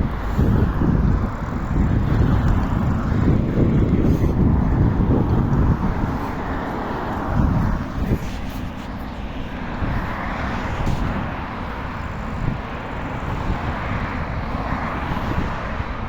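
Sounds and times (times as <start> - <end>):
road traffic: 0.0 - 16.0
rush of wind: 0.0 - 16.0
wind buffeting microphone: 0.0 - 16.0.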